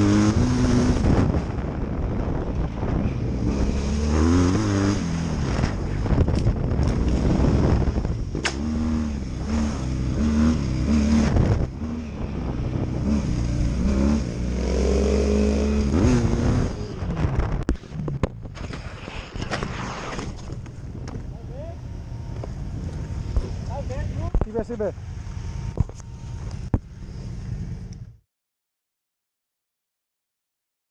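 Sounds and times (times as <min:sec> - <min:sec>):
motorcycle engine revving: 0:00.0 - 0:18.6, 0:20.0 - 0:28.2.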